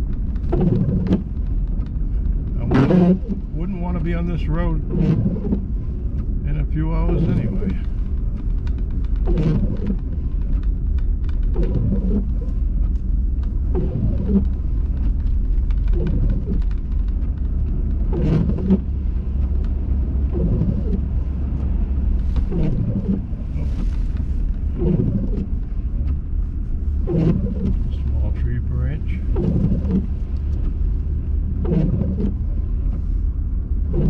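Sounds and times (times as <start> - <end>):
car engine and road rumble: 0.0 - 34.0
windshield wipers sweeping: 0.0 - 34.0.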